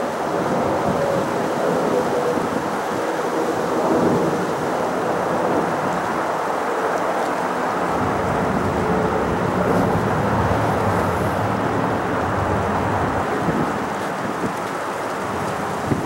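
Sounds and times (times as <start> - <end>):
distant jet engine noise: 0.0 - 16.0
deep rumble of airliner: 0.2 - 16.0.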